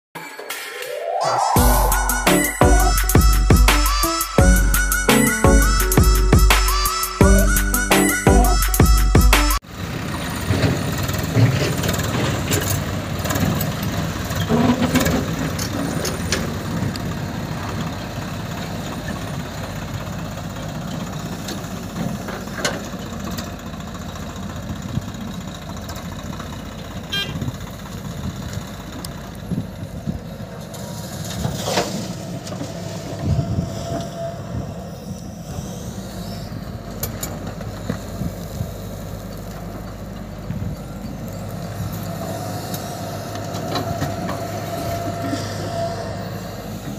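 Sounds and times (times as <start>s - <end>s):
diesel engines running: 1.3s - 46.9s.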